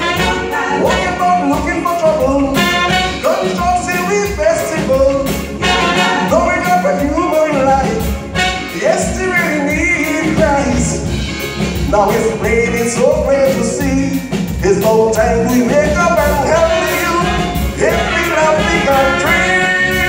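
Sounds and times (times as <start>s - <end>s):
man singing into a microphone: 0.0s - 8.0s, 8.7s - 11.1s, 11.8s - 20.0s
calypso band music: 0.0s - 20.0s.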